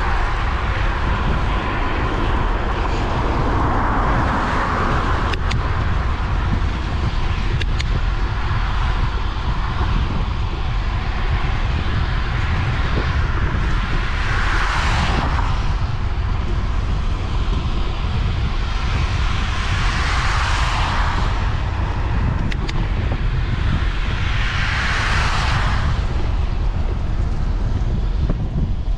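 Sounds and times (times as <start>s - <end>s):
vehicles passing on wet road: 0.0s - 28.9s
wind rumbling on microphone: 0.0s - 28.9s.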